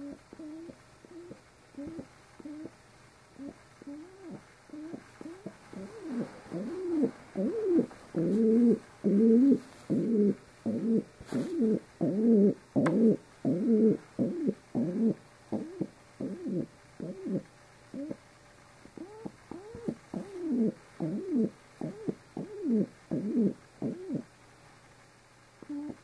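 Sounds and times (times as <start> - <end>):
pigeon cooing: 0.0 - 2.8, 3.4 - 18.2, 18.9 - 24.3, 25.6 - 26.0.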